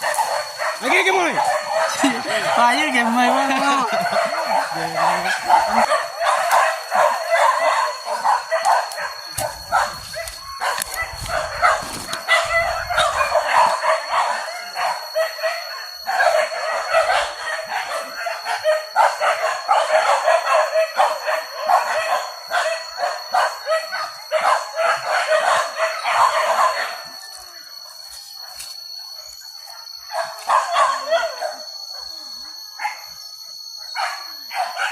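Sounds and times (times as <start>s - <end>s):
dogs barking and yelping: 0.0s - 34.9s.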